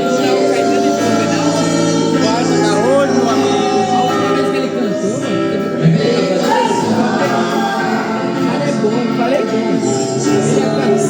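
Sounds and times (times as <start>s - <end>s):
held instrumental chords: 0.0s - 11.0s
voices singing: 0.0s - 11.0s.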